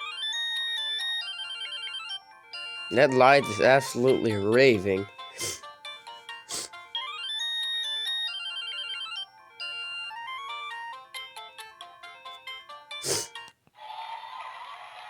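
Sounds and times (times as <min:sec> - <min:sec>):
polyphonic phone ringtone: 0:00.0 - 0:13.5.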